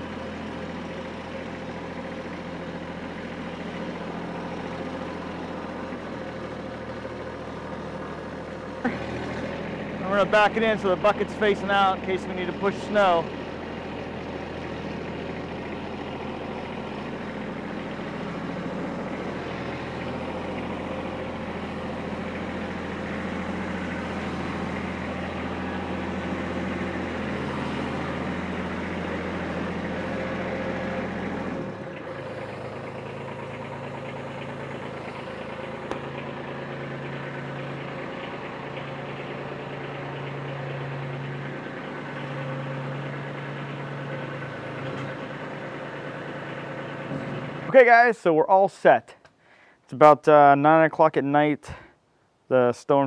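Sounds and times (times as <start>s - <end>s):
diesel tractor engine running: 0.0s - 52.3s.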